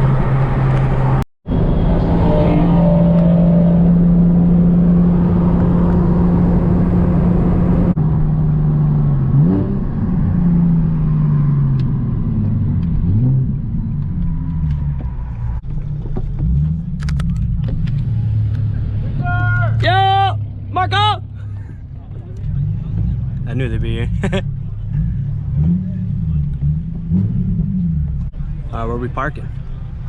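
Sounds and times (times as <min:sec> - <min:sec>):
car engine revving: 0:00.0 - 0:21.0, 0:22.0 - 0:29.8.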